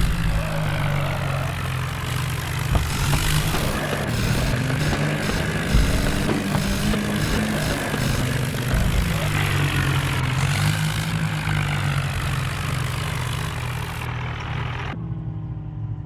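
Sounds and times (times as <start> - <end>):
diesel tractor engine running: 0.0 - 15.4.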